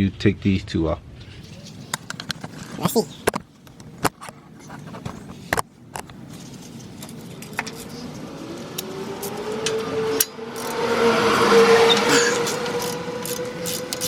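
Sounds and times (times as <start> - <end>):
motor vehicle passing: 1.3 - 14.0.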